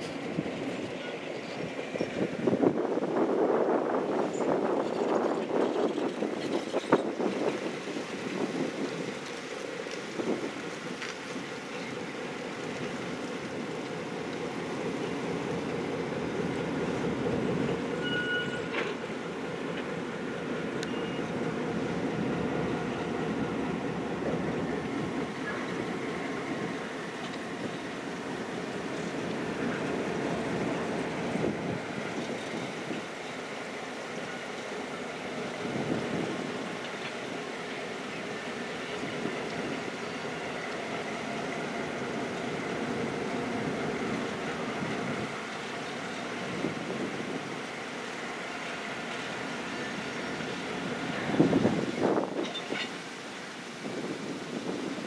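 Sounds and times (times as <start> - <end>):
diesel locomotive engine rumble: 0.0 - 55.0
train wheels on rails: 0.0 - 55.0.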